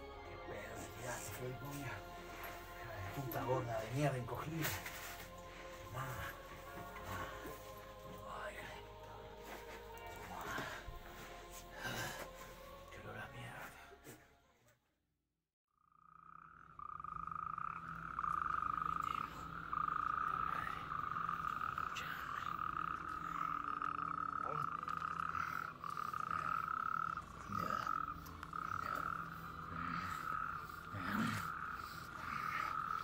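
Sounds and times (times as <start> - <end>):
frogs trilling: 0.0 - 12.2, 15.8 - 33.0.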